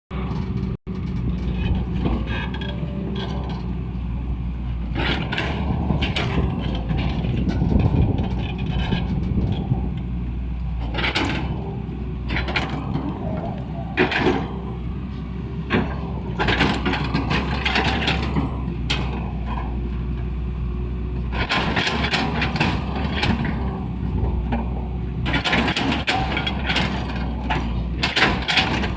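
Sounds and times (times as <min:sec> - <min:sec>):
excavator diesel engine running: 0:00.1 - 0:28.9
metal clanks and scrapes: 0:00.2 - 0:20.4, 0:21.1 - 0:28.9.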